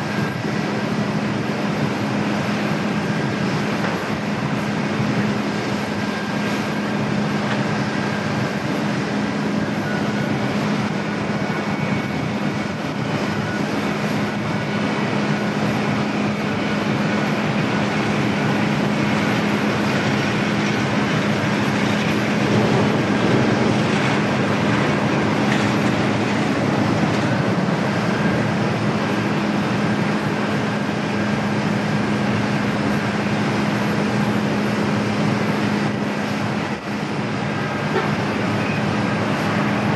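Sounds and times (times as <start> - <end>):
jet airliner engines running: 0.0 - 39.9.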